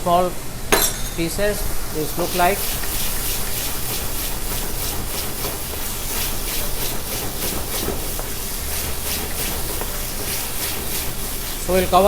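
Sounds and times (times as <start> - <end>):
masala sizzling in a pan: 1.6 - 12.0.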